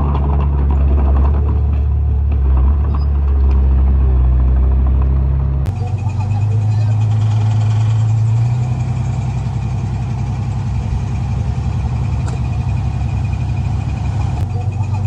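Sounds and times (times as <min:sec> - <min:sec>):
diesel engine of earthmoving equipment: 0:00.0 - 0:15.0.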